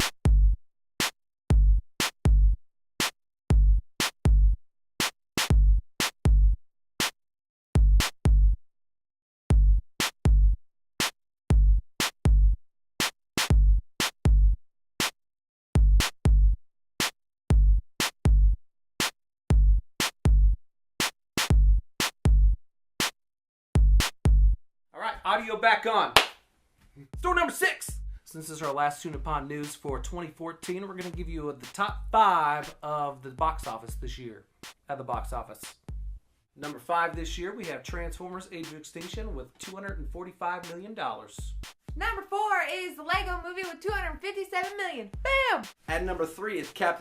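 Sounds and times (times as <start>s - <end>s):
drum machine beat: 0.0s - 7.2s, 7.8s - 8.6s, 9.5s - 15.2s, 15.8s - 23.2s, 23.8s - 24.6s, 27.1s - 47.0s.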